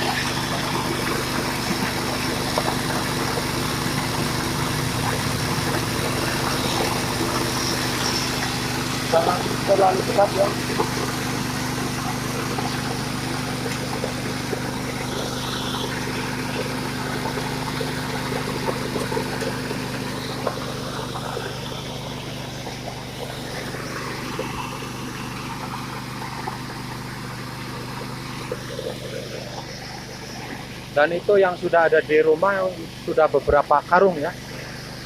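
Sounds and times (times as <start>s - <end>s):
coffee huller hissing and ticking: 0.0s - 35.0s
engine drone: 0.0s - 35.0s.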